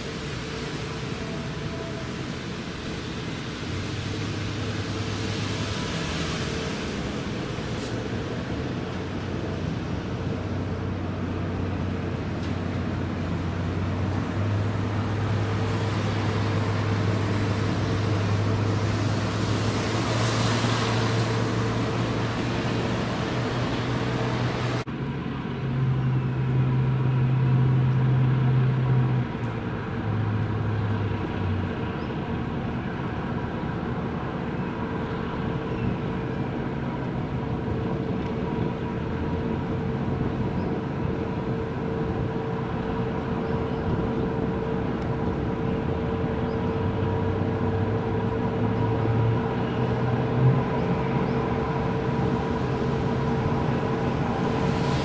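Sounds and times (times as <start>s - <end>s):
constant hum: 0.0s - 55.0s
diesel engines droning: 0.0s - 55.0s.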